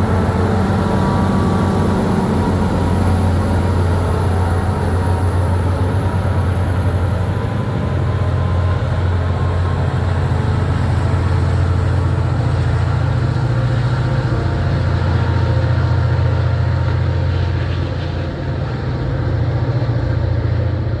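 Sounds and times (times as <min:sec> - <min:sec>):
diesel locomotive drone: 0:00.0 - 0:21.0.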